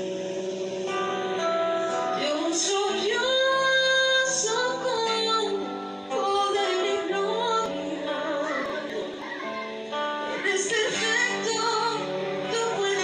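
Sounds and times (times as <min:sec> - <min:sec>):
guitar accompaniment: 0:00.0 - 0:13.0
woman singing: 0:01.9 - 0:13.0.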